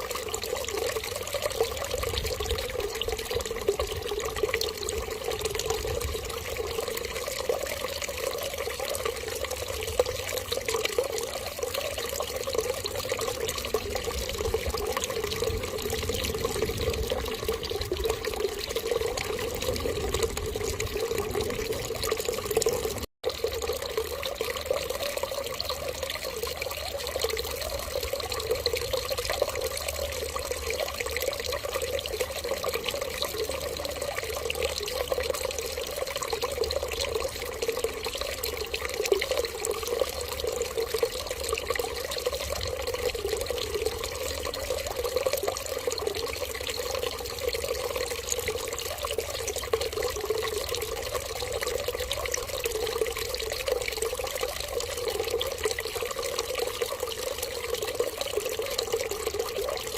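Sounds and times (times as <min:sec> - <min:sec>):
water running steadily: 0:00.0 - 0:59.9.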